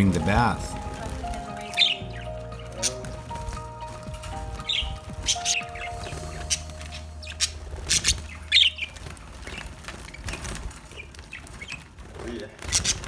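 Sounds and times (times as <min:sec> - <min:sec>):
budgies chirping: 0:00.0 - 0:13.0.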